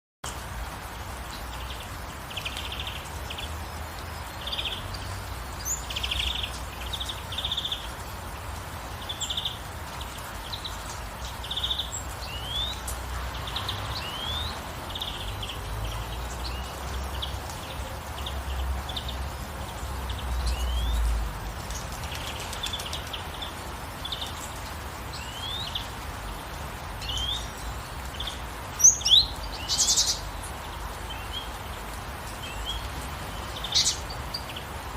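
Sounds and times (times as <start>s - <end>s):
birds chirping: 0.2s - 34.9s
gentle rain hiss: 0.2s - 34.9s.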